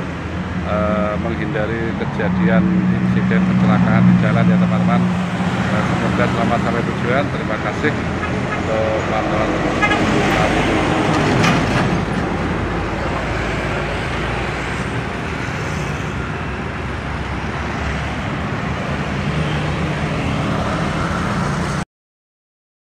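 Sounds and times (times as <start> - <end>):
motorcycle engines passing: 0.0 - 21.8
truck engines passing: 0.0 - 21.8.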